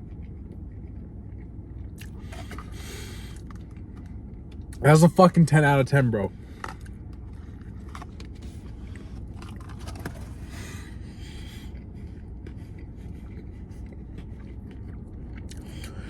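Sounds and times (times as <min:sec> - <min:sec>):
person chewing food: 0:00.0 - 0:04.8, 0:06.4 - 0:16.0
steady low hum: 0:00.0 - 0:16.0.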